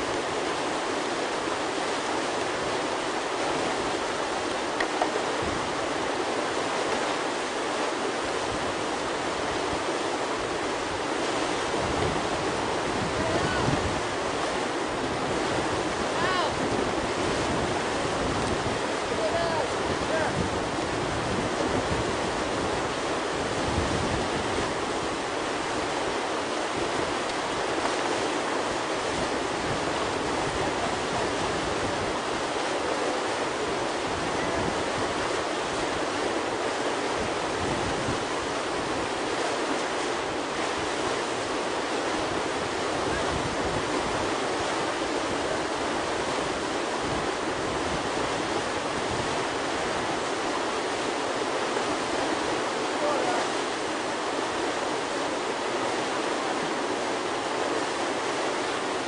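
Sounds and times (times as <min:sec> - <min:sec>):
whitewater roaring: 0:00.0 - 0:59.0.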